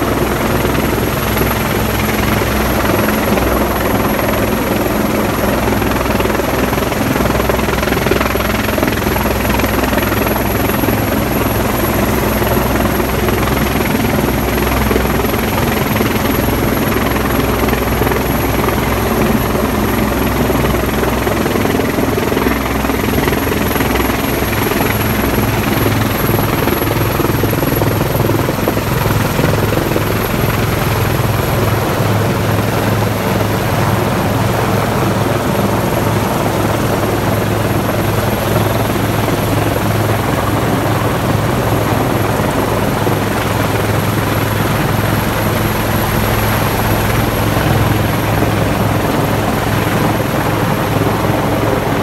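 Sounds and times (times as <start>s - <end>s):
helicopter hovering overhead: 0.0s - 52.0s.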